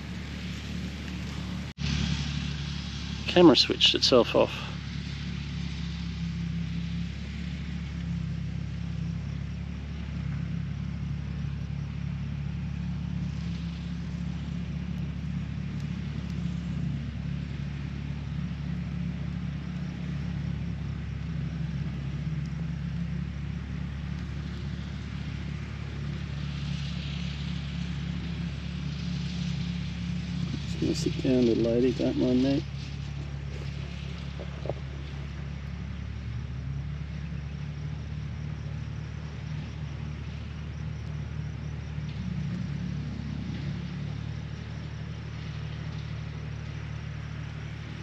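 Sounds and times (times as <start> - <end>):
faint hum: 0.0 - 48.0
low rumble: 0.0 - 48.0.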